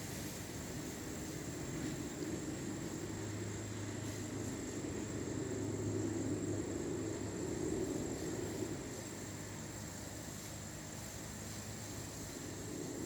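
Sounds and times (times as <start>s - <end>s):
low droning rumble from sky: 0.0s - 13.0s.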